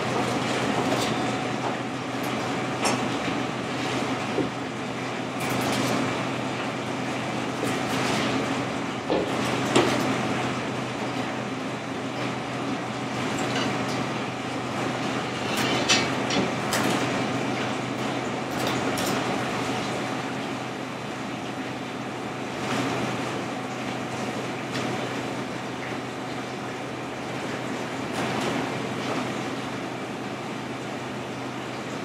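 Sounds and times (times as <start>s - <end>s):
kitchen machinery hum: 0.0s - 32.0s.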